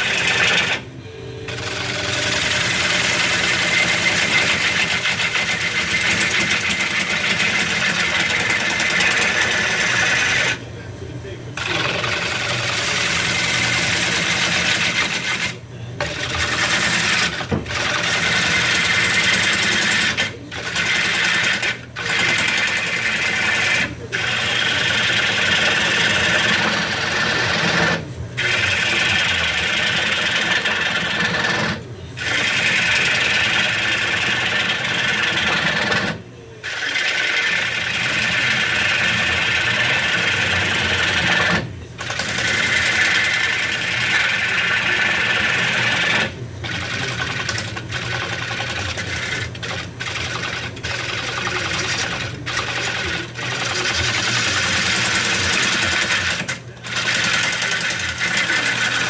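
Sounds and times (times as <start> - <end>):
gouge cutting wood on a lathe: 0.0 - 0.9, 1.5 - 10.8, 11.5 - 59.0
lathe humming: 0.0 - 59.0.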